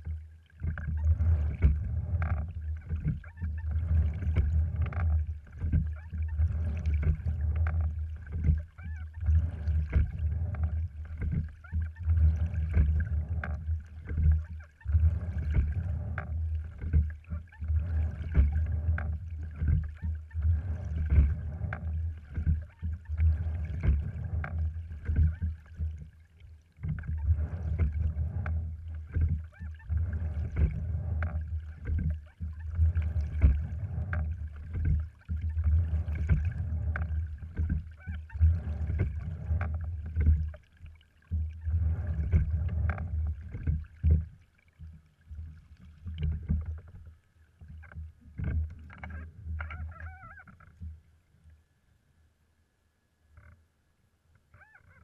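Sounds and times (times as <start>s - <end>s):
oars and seat clicking: 0.0s - 51.0s
water gurgling along a hull: 0.0s - 55.0s.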